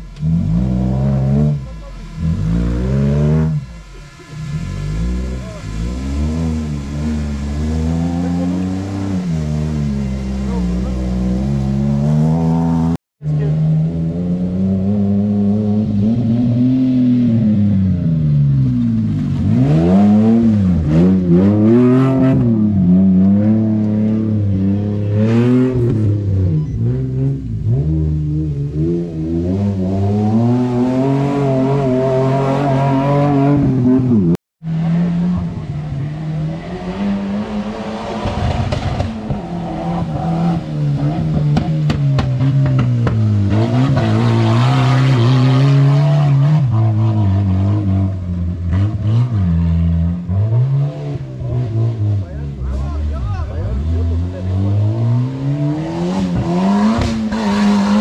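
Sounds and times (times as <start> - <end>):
race vehicle engines revving: 0.0 - 58.0.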